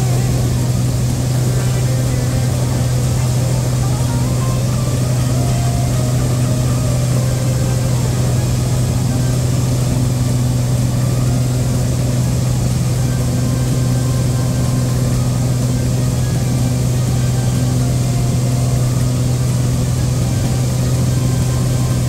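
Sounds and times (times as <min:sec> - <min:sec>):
light airplane engine in flight: 0:00.0 - 0:22.0.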